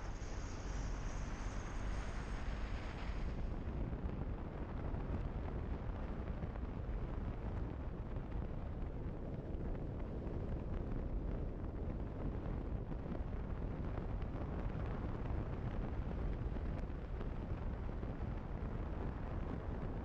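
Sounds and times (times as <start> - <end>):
wind rumbling over microphone: 0.0 - 20.0.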